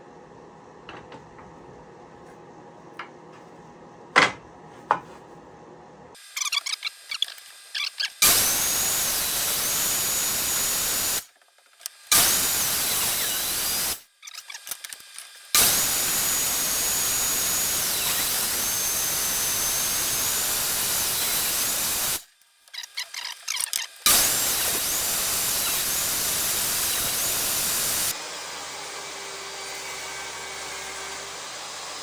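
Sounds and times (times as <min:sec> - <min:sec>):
table saw cutting wood: 0:06.2 - 0:32.0.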